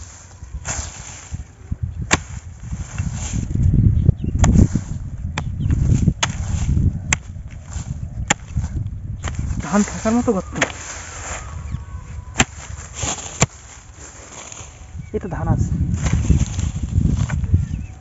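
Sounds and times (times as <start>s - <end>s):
hoe striking dry soil: 0.0s - 3.6s, 4.4s - 11.2s, 12.3s - 14.8s, 15.9s - 17.4s.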